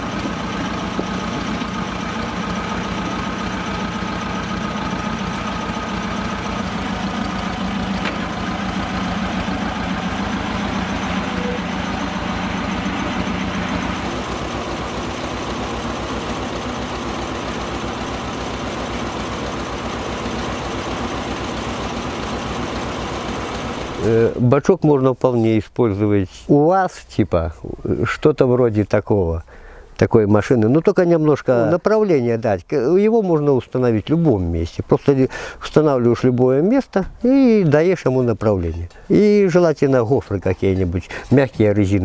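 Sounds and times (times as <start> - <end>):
diesel engine idling: 0.0 - 24.6, 31.5 - 42.0.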